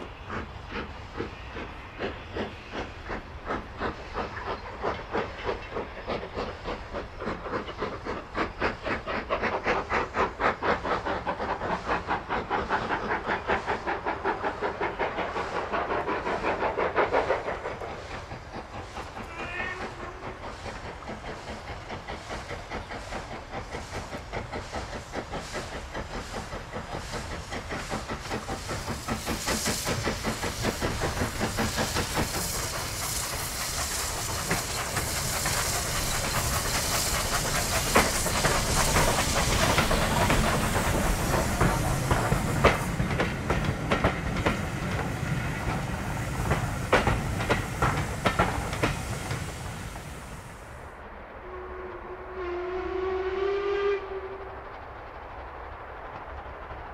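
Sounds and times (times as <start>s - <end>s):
train wheels clicking over rail joints: 0.0s - 50.9s
steam locomotive exhaust beating: 0.0s - 56.9s.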